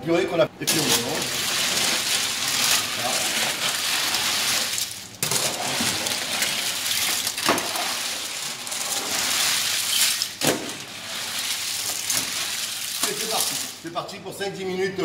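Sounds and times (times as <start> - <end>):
mussel shells clattering: 0.7 - 13.8.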